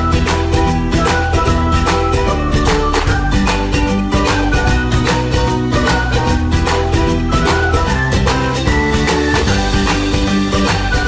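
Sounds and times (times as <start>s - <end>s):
upbeat guitar music with beat: 0.0s - 11.0s.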